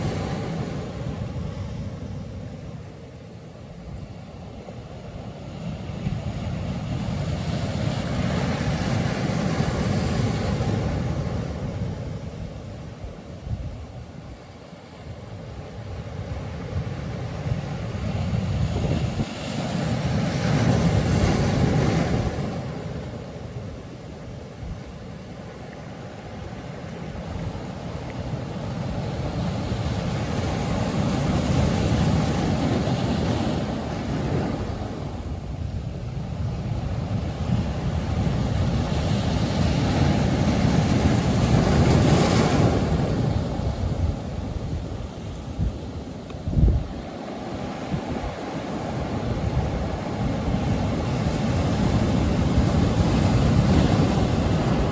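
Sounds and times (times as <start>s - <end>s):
surf rumbling: 0.0s - 54.9s
wave rushing: 0.0s - 54.9s.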